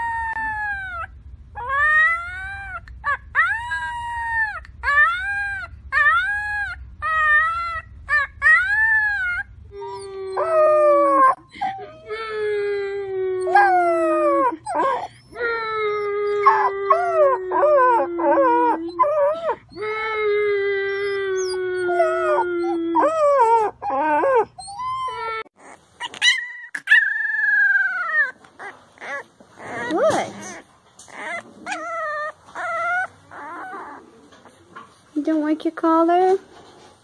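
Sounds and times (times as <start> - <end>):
puppies howling: 0.0 - 34.7.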